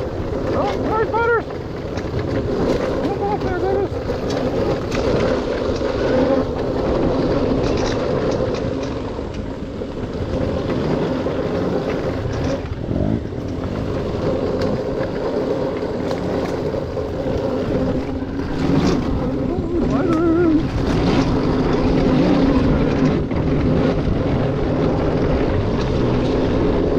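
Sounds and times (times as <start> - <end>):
dirt bike engine running: 0.0 - 26.9.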